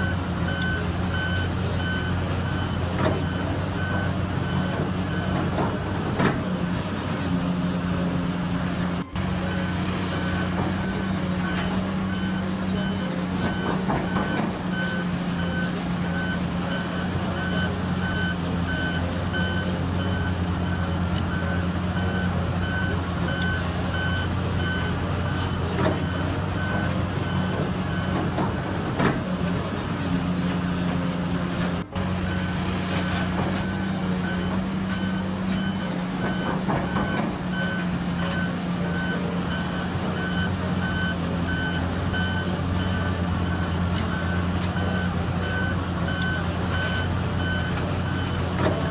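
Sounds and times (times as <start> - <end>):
backup alarm beeping: 0.0 - 6.0, 8.8 - 28.7, 31.8 - 48.9
diesel engines droning: 0.0 - 48.9.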